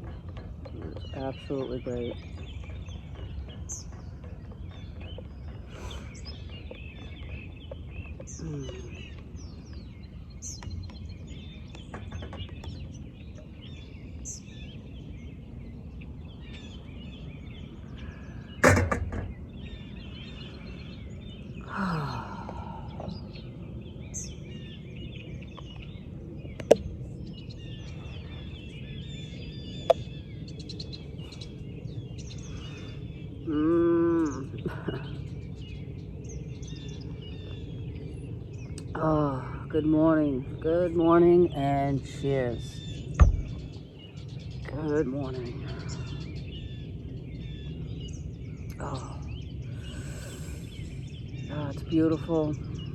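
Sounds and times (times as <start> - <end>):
small birds chirping and singing: 0.0 - 52.9.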